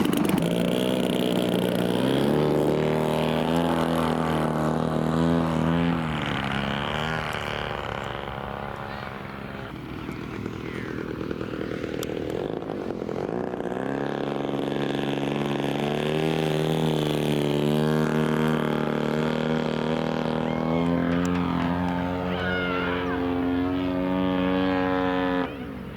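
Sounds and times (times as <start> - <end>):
aircraft engine droning: 0.0 - 25.9.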